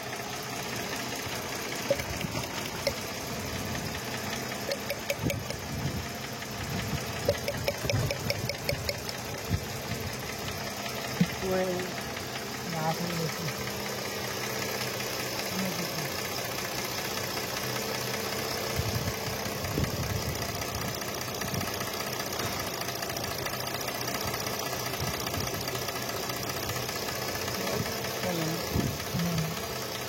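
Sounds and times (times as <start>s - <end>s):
car engine idling with misfire: 0.0s - 30.0s.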